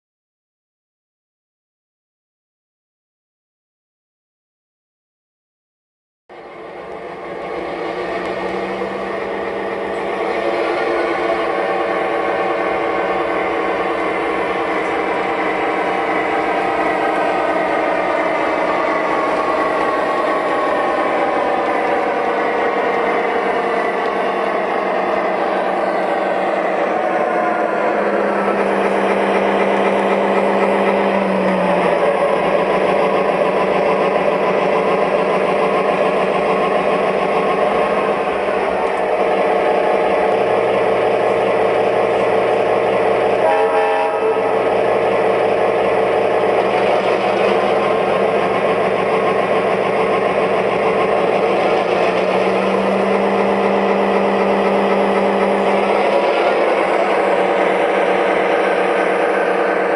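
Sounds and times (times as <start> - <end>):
model train engine rumble: 6.3 - 59.9
model train wheels rolling: 6.4 - 59.9.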